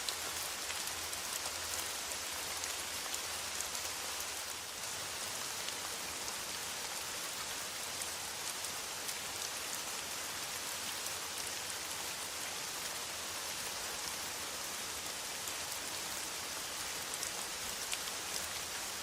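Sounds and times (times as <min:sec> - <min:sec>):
rain on a metal roof: 0:00.0 - 0:19.0.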